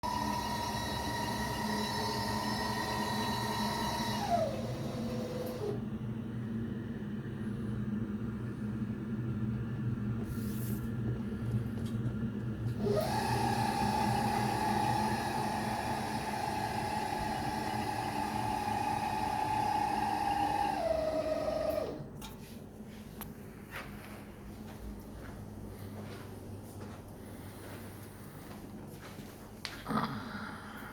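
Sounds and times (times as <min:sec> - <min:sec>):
gas fireplace low hum: 0:00.0 - 0:30.9.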